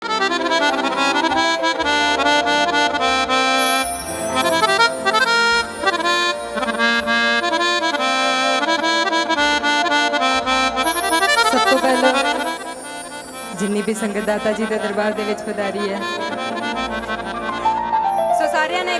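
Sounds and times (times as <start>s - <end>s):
harmonium melody: 0.0s - 18.9s.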